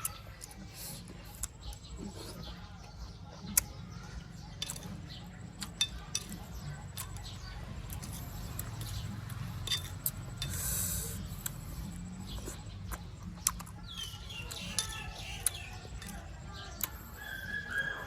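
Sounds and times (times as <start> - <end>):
person chewing crisp fruit: 0.0 - 18.0.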